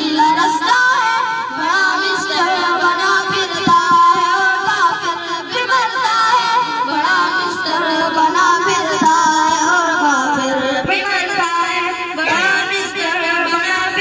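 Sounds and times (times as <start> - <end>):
boys singing into microphones: 0.0 - 14.0.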